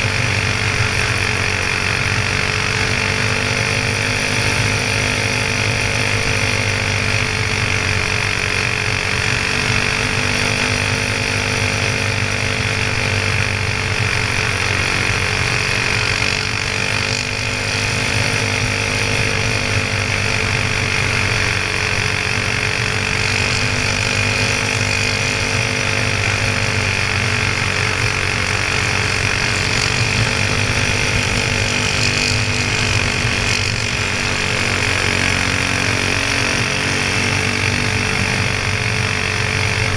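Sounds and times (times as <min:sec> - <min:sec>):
go-kart engine running hard: 0:00.0 - 0:39.9
wind and track noise: 0:00.0 - 0:39.9.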